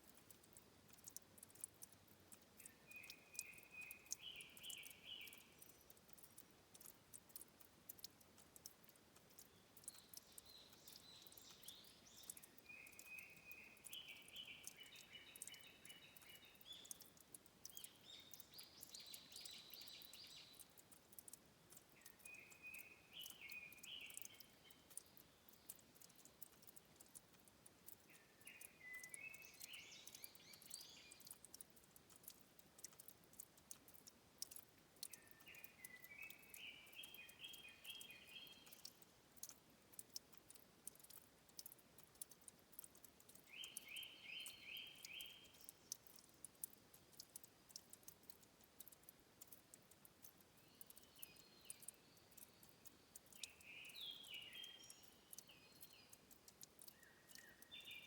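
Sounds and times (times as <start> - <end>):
faint clicks: 0.0 - 58.0
soft hiss: 0.0 - 58.0
songbird singing: 0.0 - 58.0.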